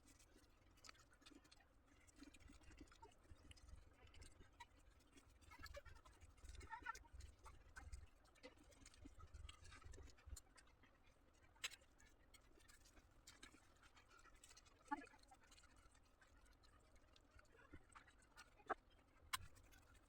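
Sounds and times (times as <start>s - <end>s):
quiet eating sounds: 0.0s - 20.0s.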